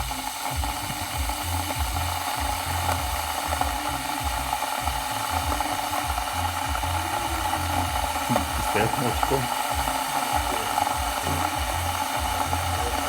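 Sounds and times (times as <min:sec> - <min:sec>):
electric kettle heating water: 0:00.0 - 0:13.0.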